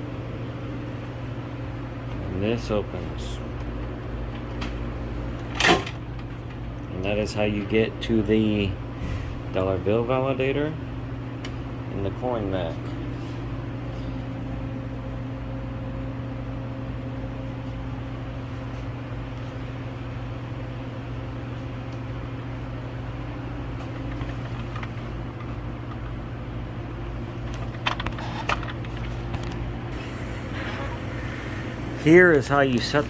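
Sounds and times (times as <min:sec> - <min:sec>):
vending machine cooling hum: 0:00.0 - 0:33.0.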